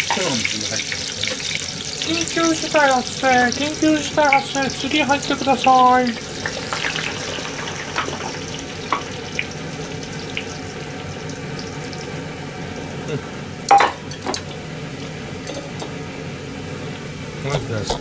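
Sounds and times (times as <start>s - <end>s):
deep-frying sizzle: 0.0s - 17.8s.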